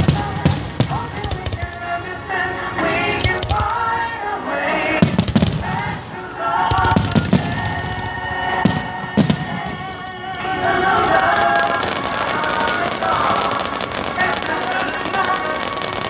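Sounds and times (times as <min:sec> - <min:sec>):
fireworks bursting: 0:00.0 - 0:16.0
music playing: 0:00.0 - 0:16.0.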